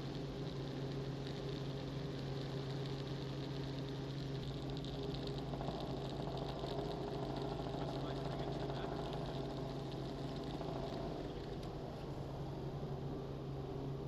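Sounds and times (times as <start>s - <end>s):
helicopter engine and rotors drone: 0.0s - 14.0s.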